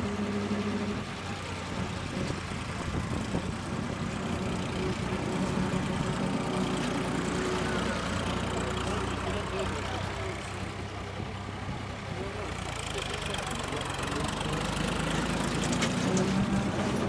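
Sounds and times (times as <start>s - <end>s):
light aircraft engine: 0.0s - 17.0s
tractor engine running: 0.0s - 17.0s.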